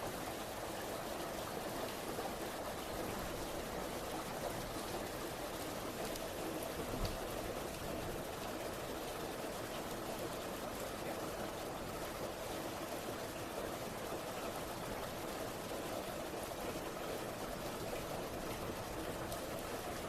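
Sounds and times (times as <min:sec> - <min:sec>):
heavy rain falling: 0:00.1 - 0:20.0.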